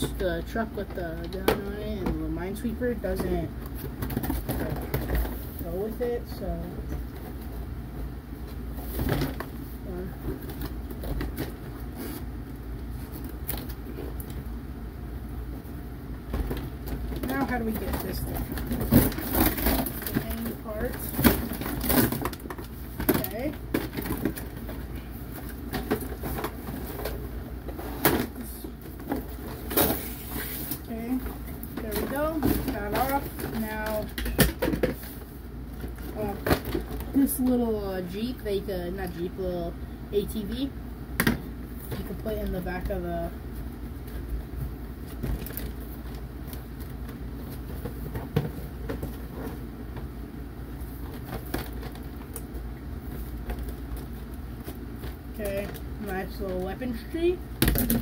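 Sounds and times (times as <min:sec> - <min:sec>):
cardboard and plastic packaging rustling: 0:00.0 - 0:14.6, 0:15.4 - 0:39.4, 0:40.5 - 0:58.0
steady low hum: 0:00.0 - 0:58.0.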